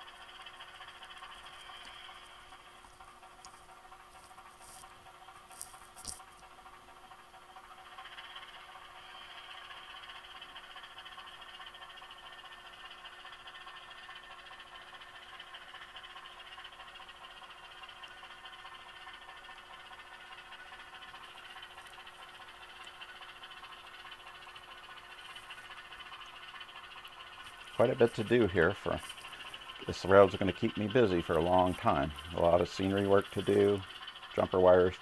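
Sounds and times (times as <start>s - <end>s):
diesel engine sound through small speaker: 0.0s - 35.0s.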